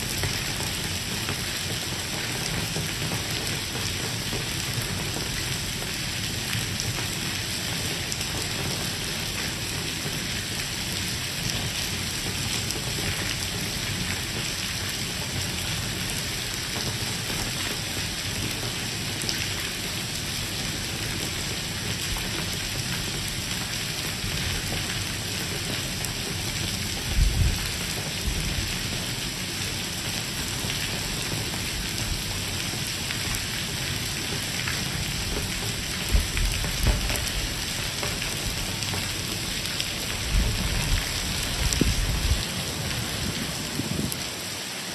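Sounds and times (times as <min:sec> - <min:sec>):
heavy rain on stone pavement: 0:00.0 - 0:44.9.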